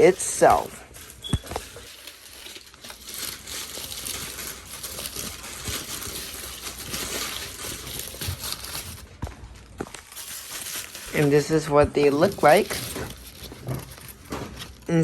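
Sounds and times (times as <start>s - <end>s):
paper wrapper crinkling: 0.0s - 15.0s.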